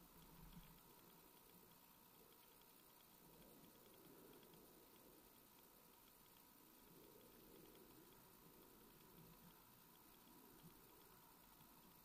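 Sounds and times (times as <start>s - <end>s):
faint steady hiss: 0.0s - 12.0s
faint ticks: 0.0s - 12.0s.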